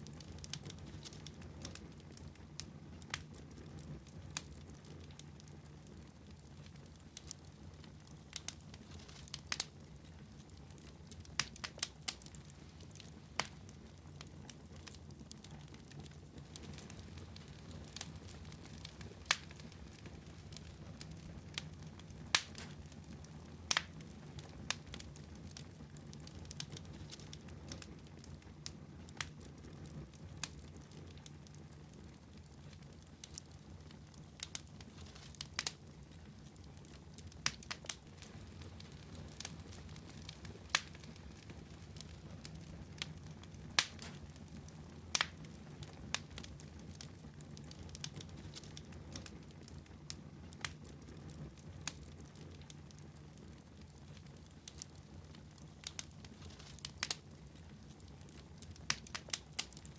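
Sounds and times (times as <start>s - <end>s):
fire crackling and popping: 0.0s - 59.9s
low rumble of burning fire: 0.0s - 59.9s.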